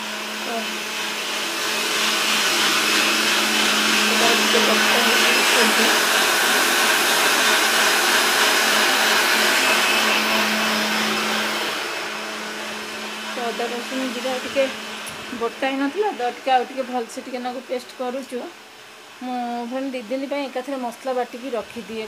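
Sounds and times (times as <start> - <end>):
mixer grinder running: 0.0 - 22.0.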